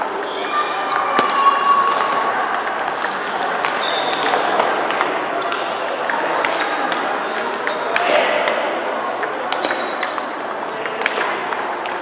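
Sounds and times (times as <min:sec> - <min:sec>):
people chattering: 0:00.0 - 0:12.0
sports hall din: 0:00.0 - 0:12.0
table tennis balls clicking: 0:00.1 - 0:12.0.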